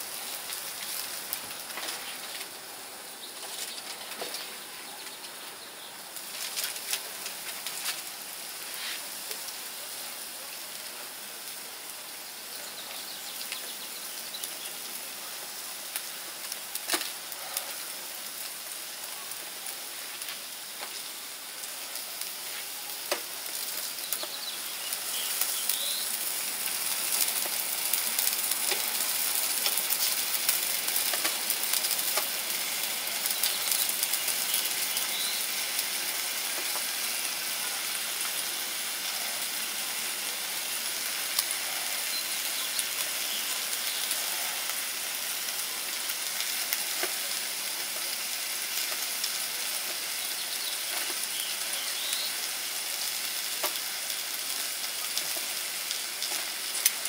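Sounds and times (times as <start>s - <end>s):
beef sizzling on a grill: 0.0s - 57.0s.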